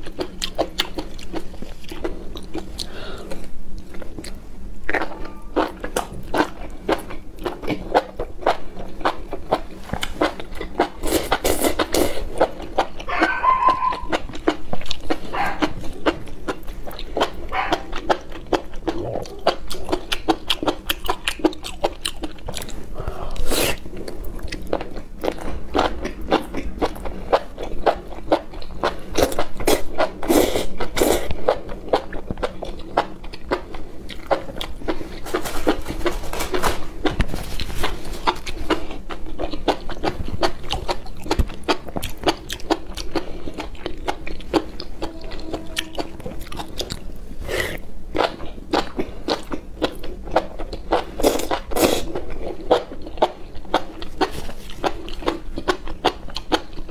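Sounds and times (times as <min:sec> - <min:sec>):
slurping and chewing: 0:00.0 - 0:56.9.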